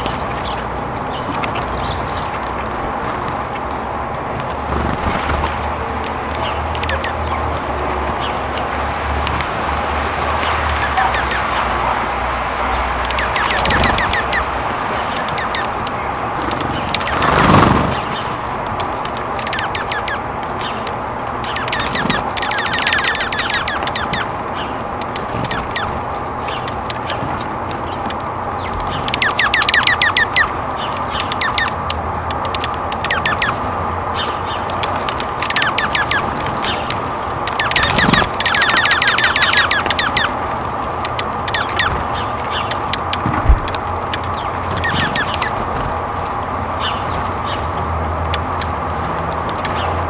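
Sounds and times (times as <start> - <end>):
birds chipping and chattering: 0.0 - 50.0.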